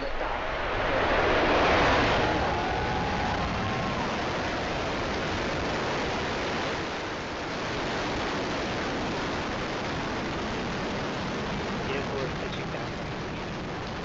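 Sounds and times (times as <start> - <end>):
rocket engines rushing roar: 0.0 - 14.0.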